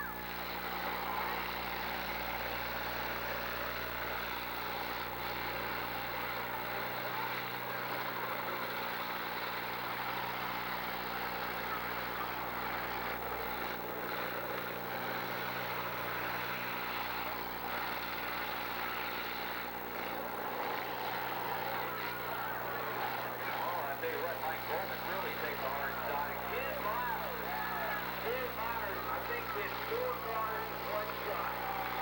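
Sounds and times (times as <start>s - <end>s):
many car engines running: 0.0s - 32.0s.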